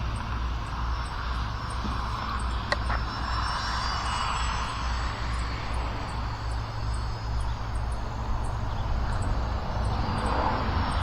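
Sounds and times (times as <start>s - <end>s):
distant propeller buzz: 0.0s - 11.0s
wind buffeting microphone: 0.0s - 11.0s.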